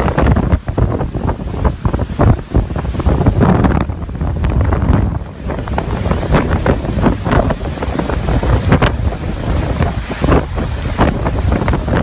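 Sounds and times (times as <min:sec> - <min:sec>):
strong wind gusts: 0:00.0 - 0:12.0
wind thumping microphone: 0:00.0 - 0:12.0.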